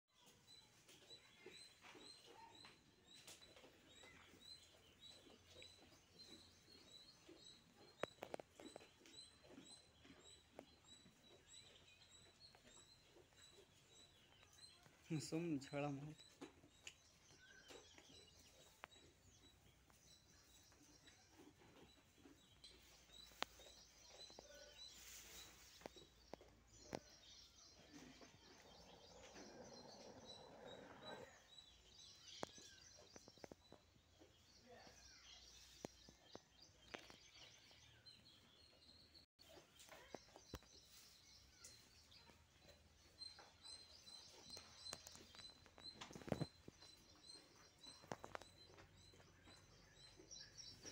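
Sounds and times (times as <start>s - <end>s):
small birds chirping: 0.1s - 50.9s.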